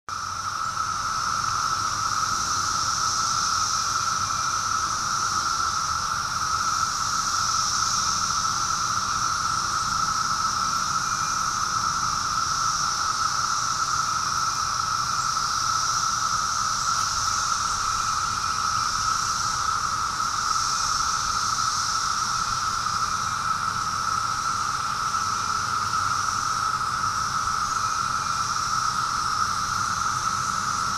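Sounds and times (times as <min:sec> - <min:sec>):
cicadas droning: 0:00.1 - 0:30.9.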